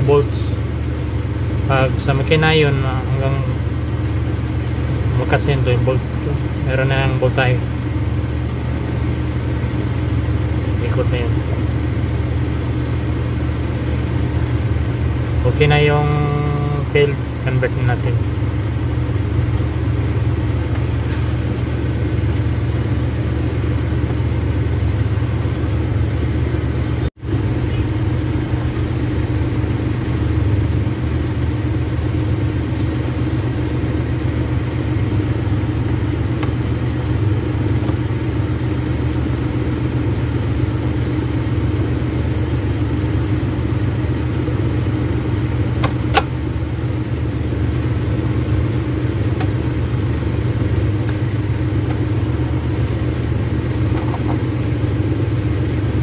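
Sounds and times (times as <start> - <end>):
motor humming: 0.0 - 56.0.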